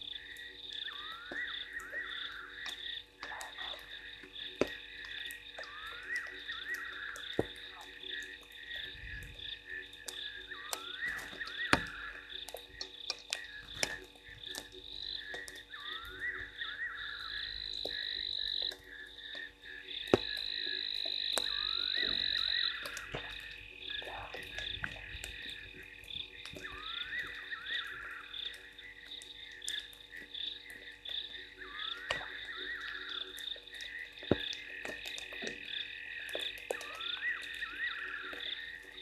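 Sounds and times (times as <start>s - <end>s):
frog clicks: 0.0s - 39.0s
frogs short rising calls: 0.0s - 39.0s.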